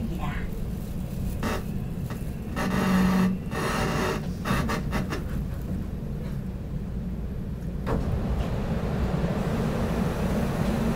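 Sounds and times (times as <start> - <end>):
subway train rumble: 0.0 - 10.9.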